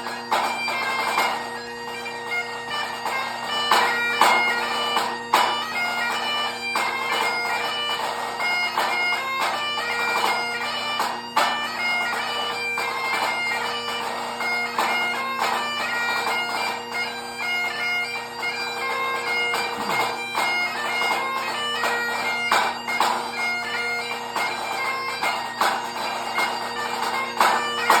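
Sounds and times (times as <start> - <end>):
bagpipe playing fast tune: 0.0 - 28.0.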